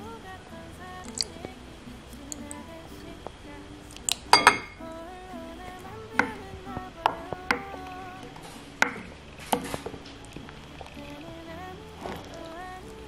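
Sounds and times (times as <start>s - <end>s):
gentle background music: 0.0s - 13.0s.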